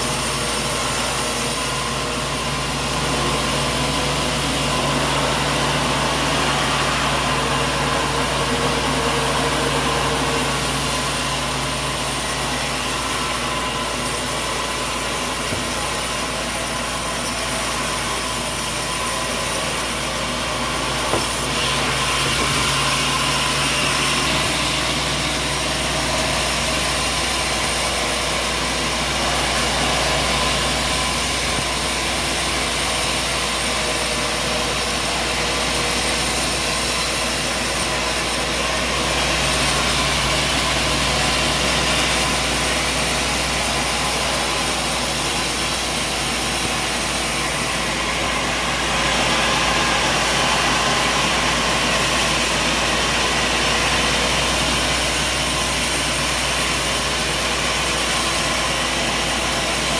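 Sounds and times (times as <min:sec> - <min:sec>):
heavy machinery whirring: 0:00.0 - 0:59.9.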